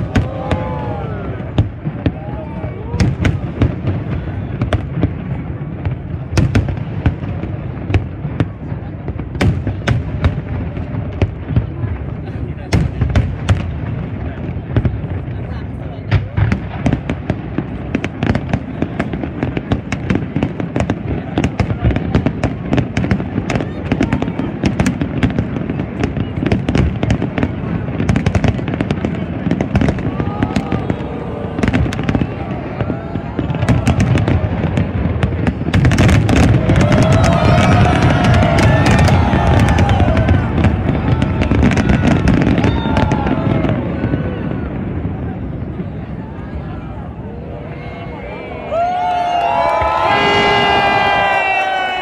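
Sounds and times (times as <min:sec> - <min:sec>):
fireworks bursts and crackles: 0:00.0 - 0:52.0
low fireworks rumble: 0:00.0 - 0:52.0.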